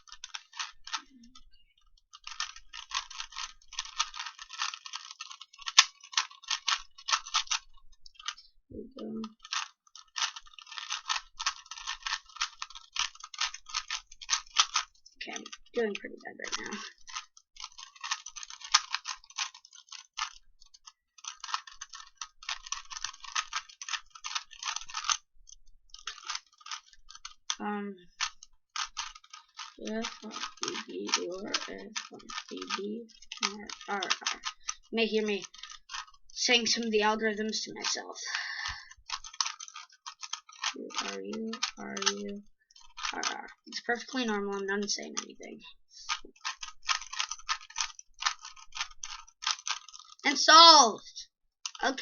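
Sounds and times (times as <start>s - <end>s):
puzzle cube plastic clicks: 0.0s - 50.9s, 51.6s - 52.0s.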